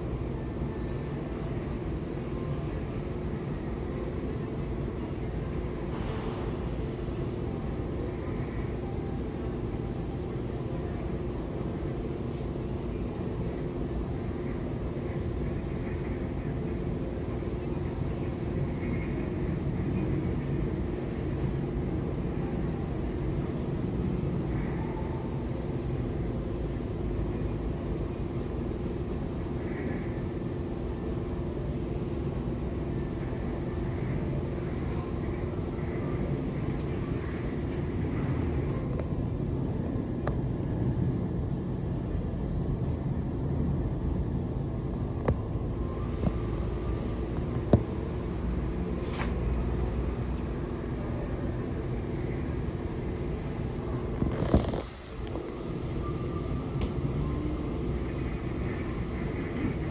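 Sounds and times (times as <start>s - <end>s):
low mechanical rumble: 0.0s - 59.9s.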